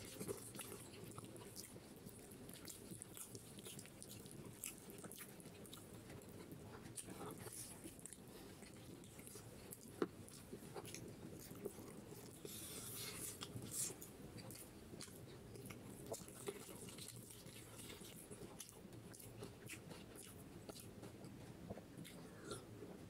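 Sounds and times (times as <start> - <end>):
wet chewing and mouth clicks: 0.0 - 23.0.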